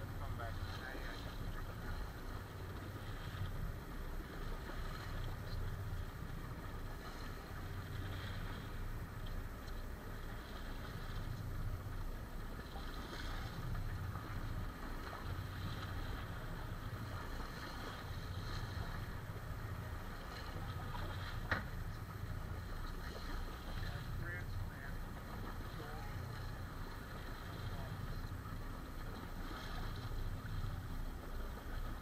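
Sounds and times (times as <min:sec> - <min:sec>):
sea water slapping against hull: 0:00.0 - 0:32.0.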